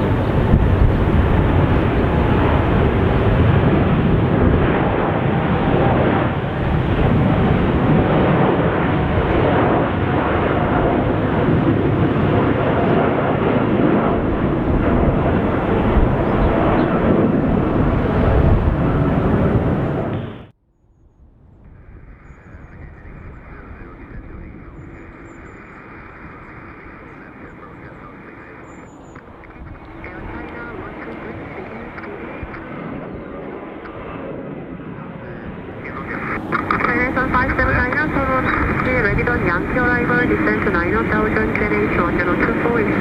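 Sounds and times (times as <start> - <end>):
jet engines at takeoff: 0.0 - 20.6, 21.2 - 43.0.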